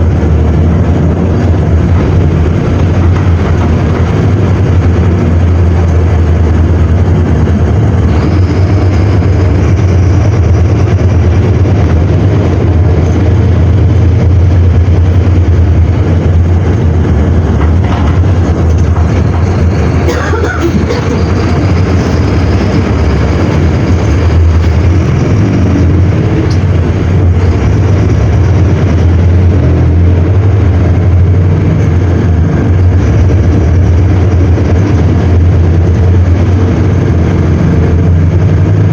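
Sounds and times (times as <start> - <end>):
diesel bus engine drone: 0.0 - 38.9.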